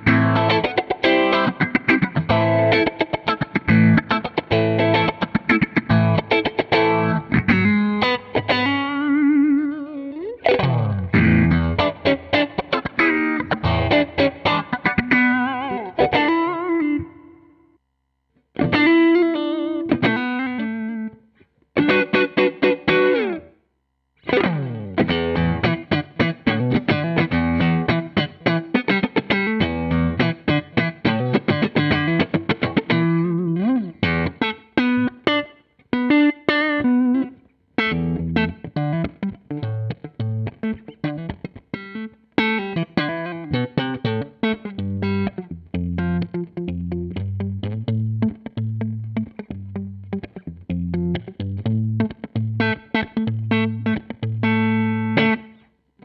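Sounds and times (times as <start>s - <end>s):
electric guitar playing: 0.0s - 17.8s, 18.4s - 23.6s, 24.2s - 55.8s.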